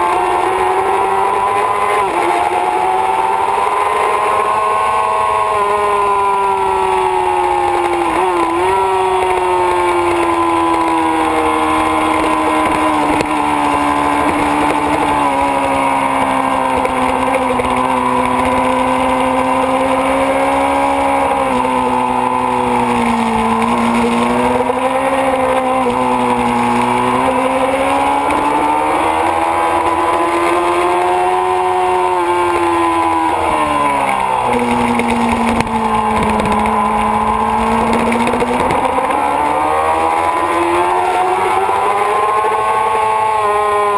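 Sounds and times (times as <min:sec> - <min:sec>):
motorcycle engine running hard: 0:00.0 - 0:43.9.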